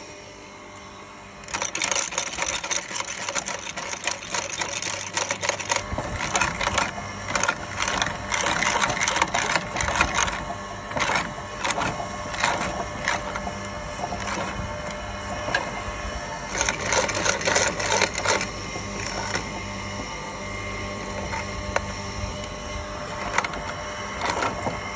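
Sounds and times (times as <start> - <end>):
meat grinder humming: 0.0 - 24.9.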